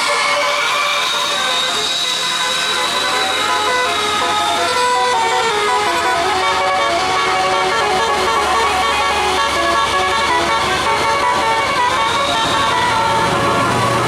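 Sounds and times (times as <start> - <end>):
bus musical air horn melody: 0.0 - 14.0.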